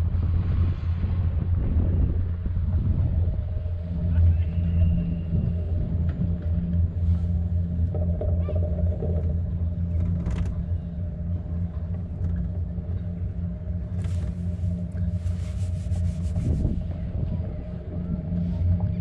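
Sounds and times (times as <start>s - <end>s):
tram running with low rumble: 0.0s - 19.0s.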